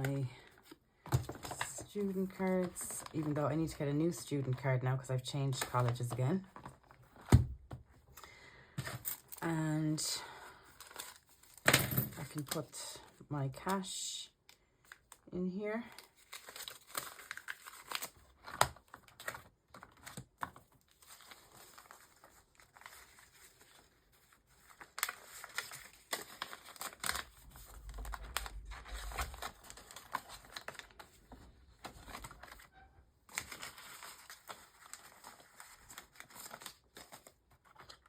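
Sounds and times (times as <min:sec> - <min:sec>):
paper rustling and crinkling: 0:00.0 - 0:04.6, 0:05.5 - 0:08.0, 0:10.6 - 0:12.6, 0:15.9 - 0:38.0.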